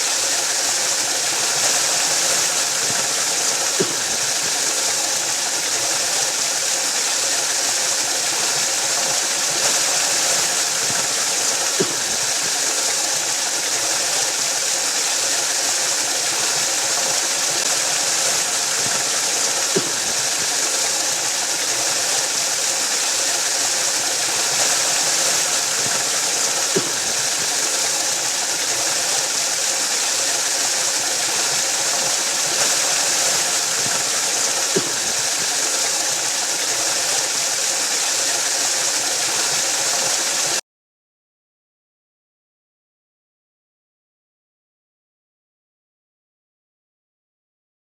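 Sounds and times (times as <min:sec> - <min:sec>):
waterfall rushing: 0:00.0 - 0:40.6.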